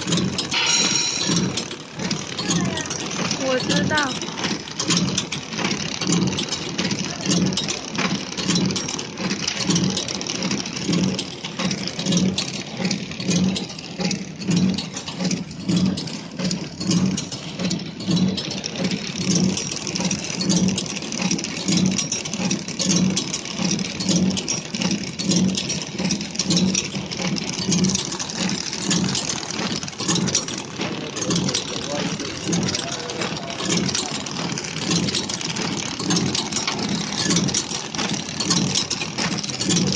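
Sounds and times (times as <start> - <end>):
light clicking and rattling: 0.0 - 39.9
packaging machine running: 0.0 - 39.9.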